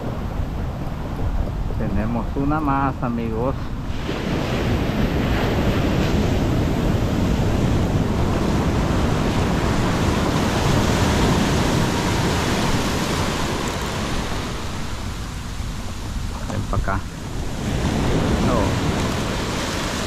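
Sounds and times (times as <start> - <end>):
waves breaking on sand: 0.0 - 20.0
wind buffeting microphone: 0.0 - 20.0.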